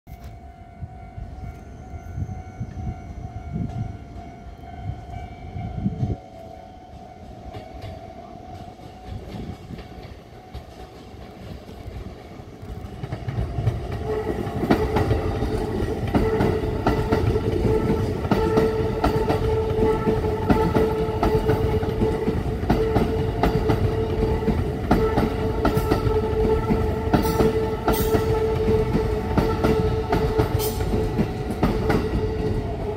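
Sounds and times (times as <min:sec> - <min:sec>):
electric train passing: 0:00.1 - 0:32.9
wheels clicking over rail joints: 0:06.4 - 0:32.9.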